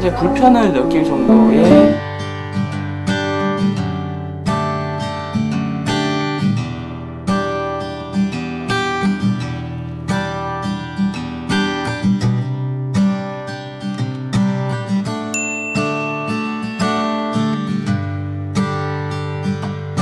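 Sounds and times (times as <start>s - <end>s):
acoustic guitar strummed and plucked: 0.0s - 20.0s.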